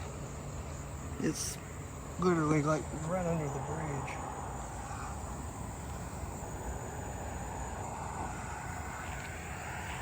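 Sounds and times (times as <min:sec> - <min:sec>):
crickets trilling: 0:00.0 - 0:10.0
low outdoor rumble: 0:00.0 - 0:10.0.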